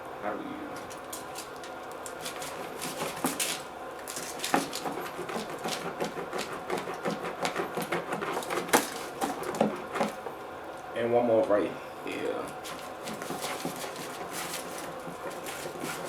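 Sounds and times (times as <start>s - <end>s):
knife cutting crunchy pizza crust: 0.8s - 10.3s, 12.5s - 16.0s.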